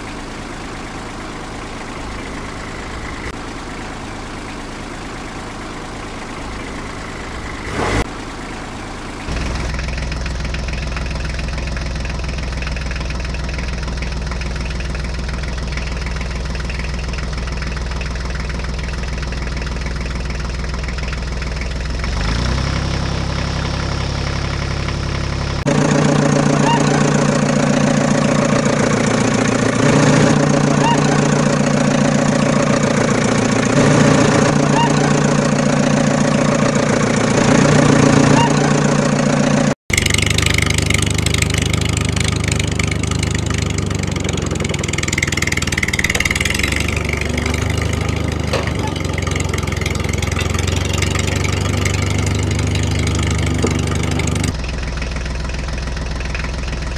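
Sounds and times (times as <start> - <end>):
tractor engine idling: 0.0 - 56.9.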